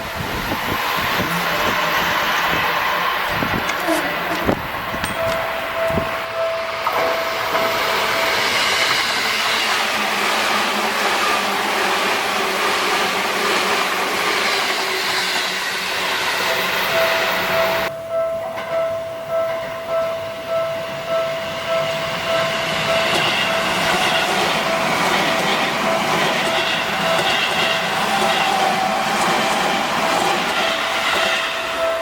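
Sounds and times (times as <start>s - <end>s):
train rolling rumble: 0.0s - 32.0s
crossing warning bell ringing: 0.6s - 11.5s, 15.1s - 32.0s.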